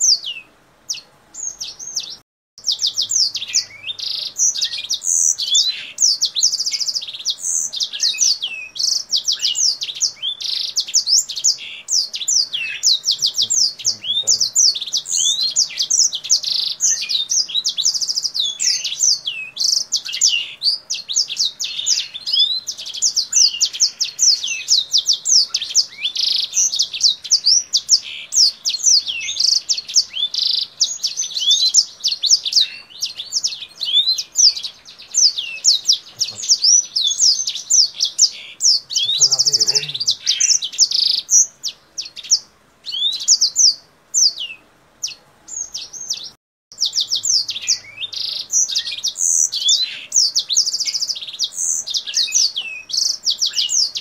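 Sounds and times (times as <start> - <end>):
finch singing chirps and trills: 0.0 - 54.0.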